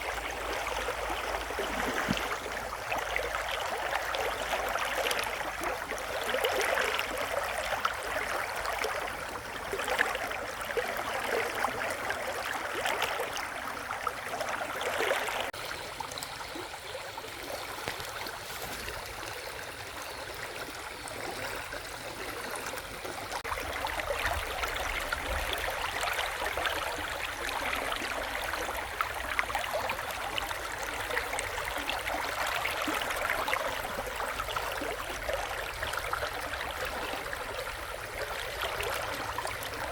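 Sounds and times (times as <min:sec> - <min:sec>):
shallow river babbling: 0:00.0 - 0:39.9.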